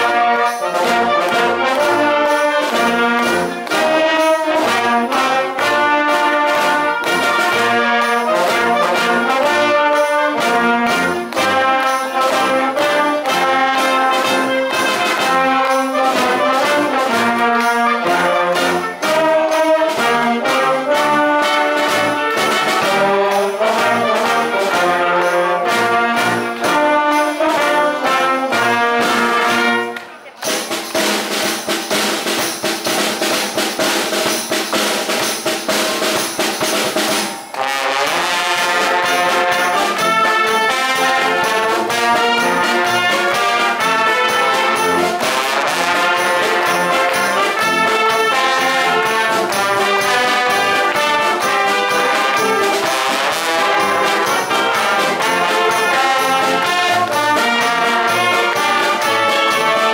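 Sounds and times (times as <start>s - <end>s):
percussion beat: 0.0s - 59.9s
wind band playing: 0.0s - 59.9s.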